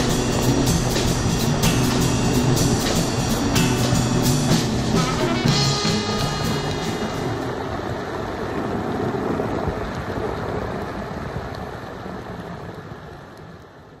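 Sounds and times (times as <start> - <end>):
wind on microphone: 0.0 - 13.2
skateboard wheels rolling on asphalt: 0.0 - 14.0.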